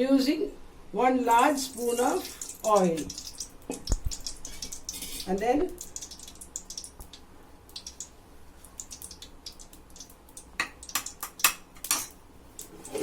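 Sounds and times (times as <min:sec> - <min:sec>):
oil ticking in pan: 0:01.6 - 0:12.7.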